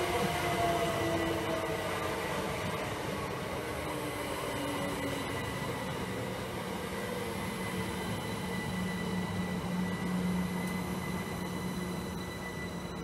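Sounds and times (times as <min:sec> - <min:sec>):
faint high whines: 0:00.0 - 0:13.0
train wheels rumbling on rails: 0:00.0 - 0:13.0.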